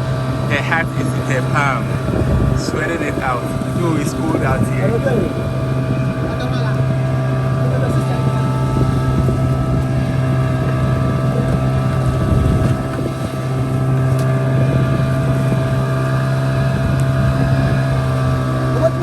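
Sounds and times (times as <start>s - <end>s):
outboard motor running: 0.0s - 19.0s
wind noise on microphone: 0.0s - 19.0s.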